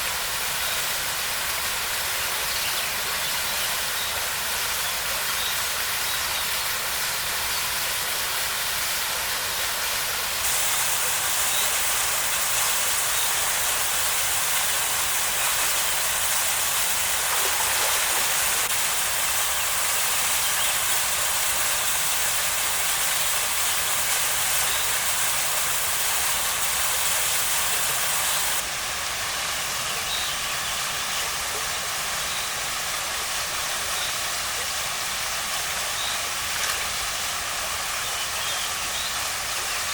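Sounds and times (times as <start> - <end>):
waterfall pouring over rocks: 0.0 - 39.9.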